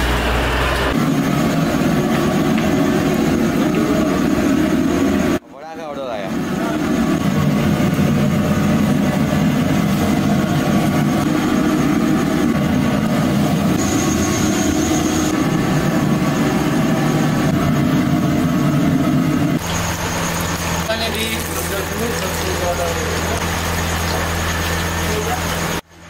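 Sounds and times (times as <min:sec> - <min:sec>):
hot oil sizzling: 0:00.0 - 0:05.4, 0:06.0 - 0:26.0
gas burner roaring: 0:00.0 - 0:26.0
faint high whine: 0:01.0 - 0:25.8.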